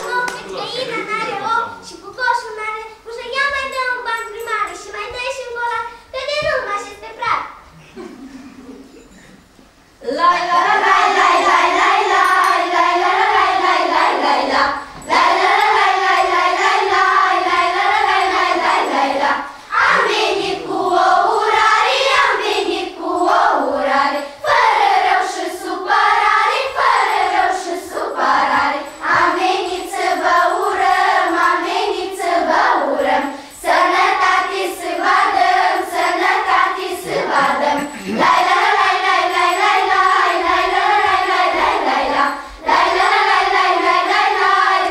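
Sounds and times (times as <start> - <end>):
children singing together: 0.0 - 1.9, 10.0 - 44.9.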